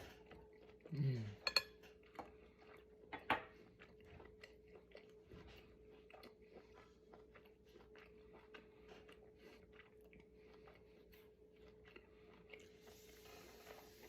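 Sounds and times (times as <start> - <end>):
person chewing meat: 0.0 - 14.0.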